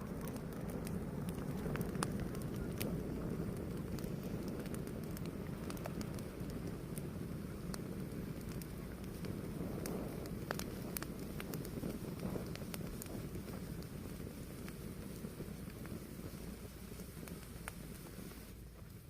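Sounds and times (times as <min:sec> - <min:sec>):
fire burning with crackles: 0:00.0 - 0:19.0.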